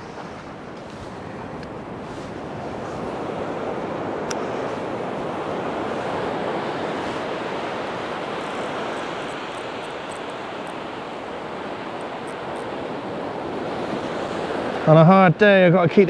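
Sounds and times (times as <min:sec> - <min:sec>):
waves on pebble beach: 0:00.0 - 0:15.7.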